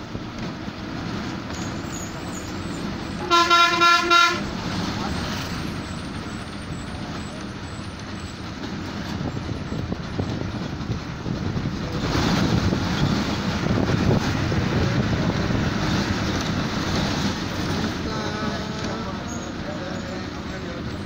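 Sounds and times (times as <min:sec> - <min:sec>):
bus engine running: 0:00.0 - 0:21.0
road and wind noise: 0:00.0 - 0:21.0.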